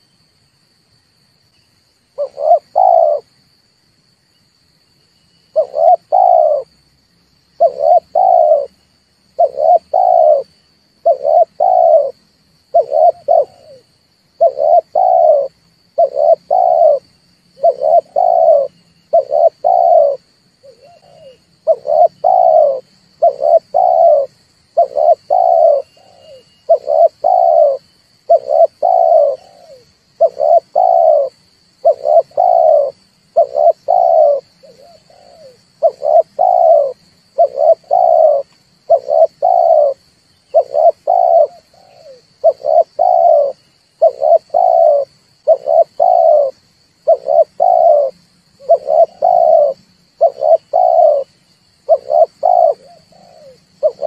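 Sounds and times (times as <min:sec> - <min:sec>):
dove cooing: 0:02.2 - 0:03.4, 0:05.5 - 0:06.7, 0:07.6 - 0:54.0.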